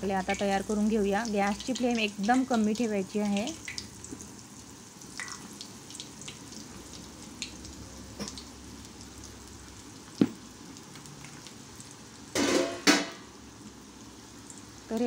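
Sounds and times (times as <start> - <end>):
dough sizzling in oil: 0.0 - 15.0.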